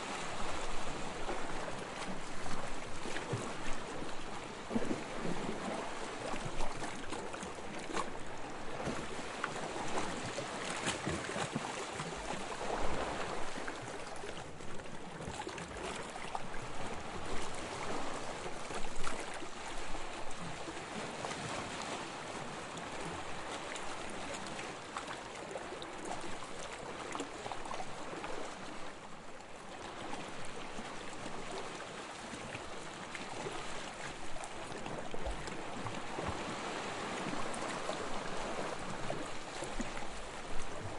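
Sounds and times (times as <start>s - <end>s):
small waves lapping on sand: 0.0s - 40.9s.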